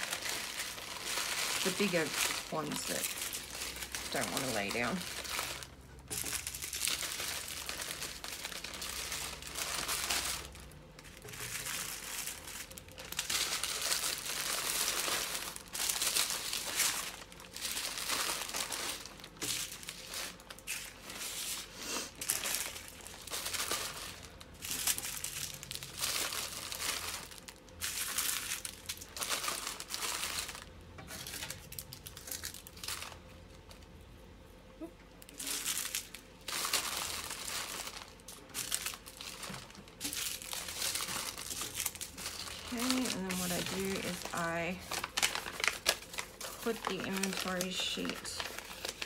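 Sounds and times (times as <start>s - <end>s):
plastic bags crinkling: 0.0s - 33.9s, 35.2s - 49.0s.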